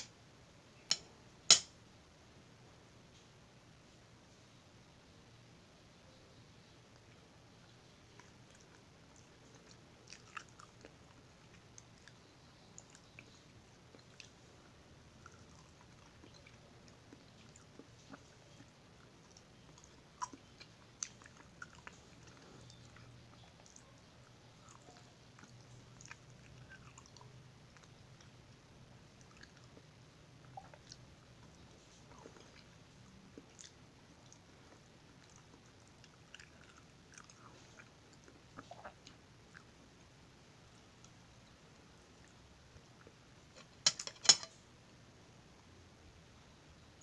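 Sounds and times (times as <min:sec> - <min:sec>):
faint chewing and biting: 0:06.9 - 0:44.6.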